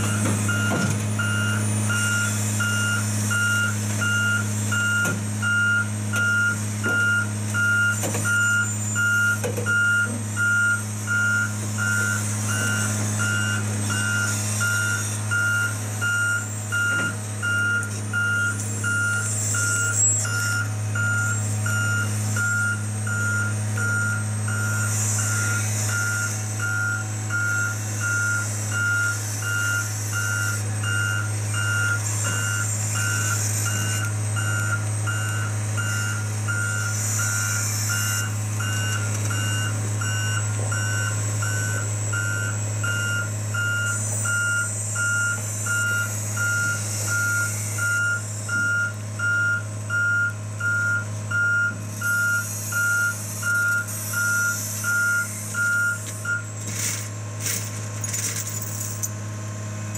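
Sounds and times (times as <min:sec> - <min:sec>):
machine travel alarm beeping: 0:00.0 - 0:57.1
diesel engine running: 0:00.0 - 0:59.9.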